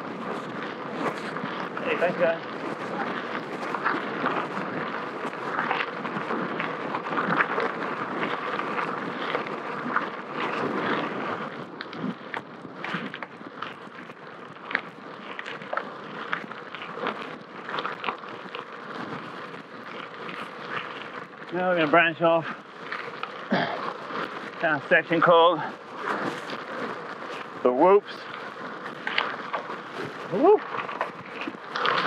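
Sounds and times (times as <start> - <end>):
bike rattling: 0.0 - 32.0
tyres crackling on gravel: 0.0 - 32.0.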